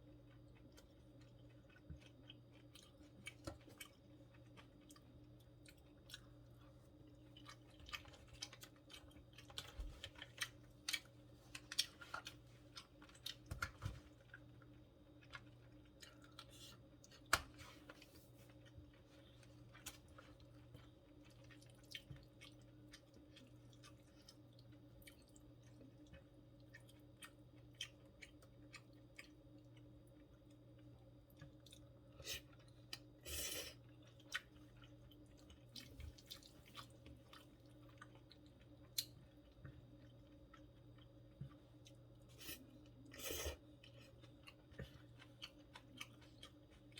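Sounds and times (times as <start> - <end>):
faint steady hum: 0.0 - 46.9
person chewing and mouth smacking: 0.1 - 33.2, 33.8 - 46.9.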